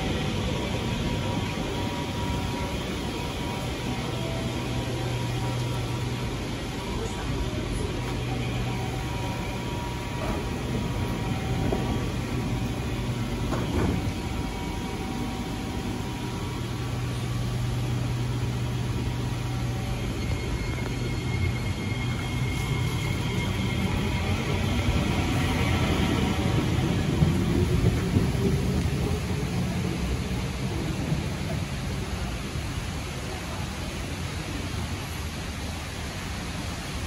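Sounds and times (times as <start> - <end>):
train high whine: 0.0 - 37.0
train low hum: 0.0 - 37.0.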